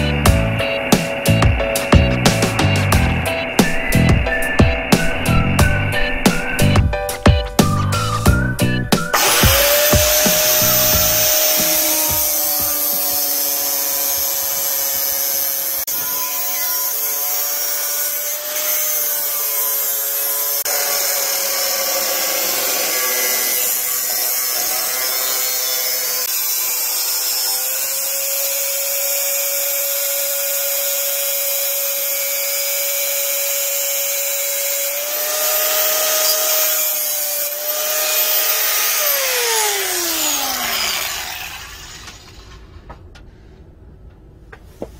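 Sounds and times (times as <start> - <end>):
angle grinder cutting steel: 0.0 - 42.7.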